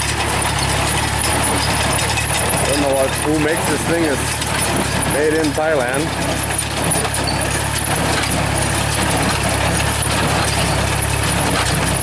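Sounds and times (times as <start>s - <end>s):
baler machinery running: 0.0s - 12.0s
tractor engine hum: 0.0s - 12.0s.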